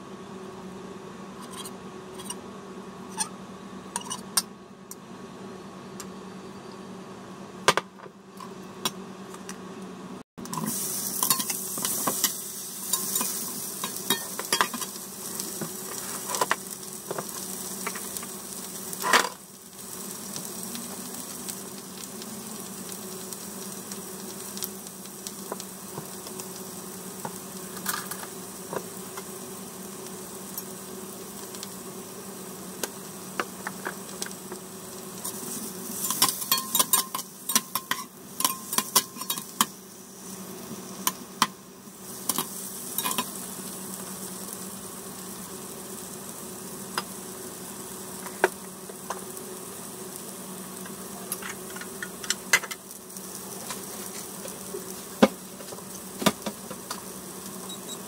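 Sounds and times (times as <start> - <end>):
tomatoes sizzling in a frying pan: 10.4 - 58.0.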